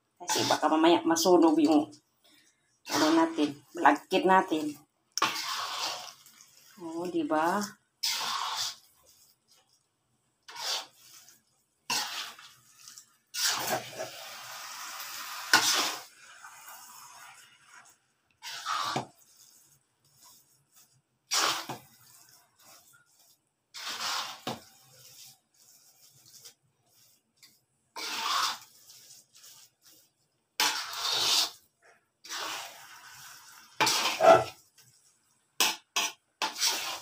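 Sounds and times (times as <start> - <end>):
spatula scraping sticky rice: 0.2 - 2.0, 2.8 - 9.8, 10.4 - 37.0.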